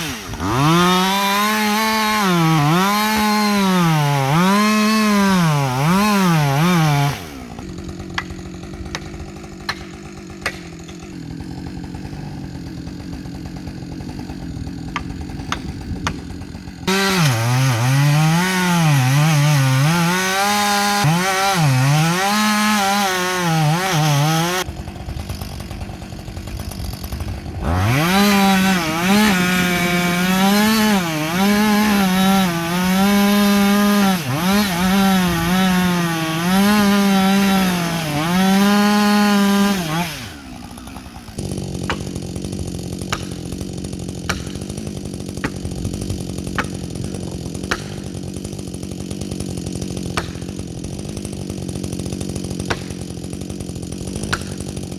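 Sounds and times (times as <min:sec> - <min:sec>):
chainsaw cutting tree trunk: 0:00.0 - 0:54.9.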